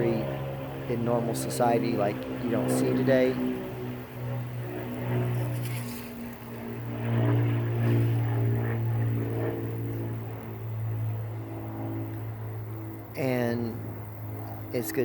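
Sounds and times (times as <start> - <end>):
low engine drone: 0.0 - 15.0
shifting pitched tones: 0.0 - 15.0.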